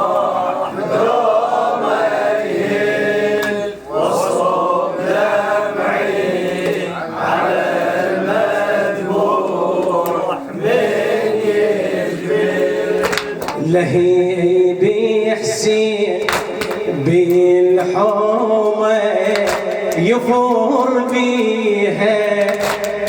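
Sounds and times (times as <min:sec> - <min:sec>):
men chanting a mourning lament: 0:00.0 - 0:23.0.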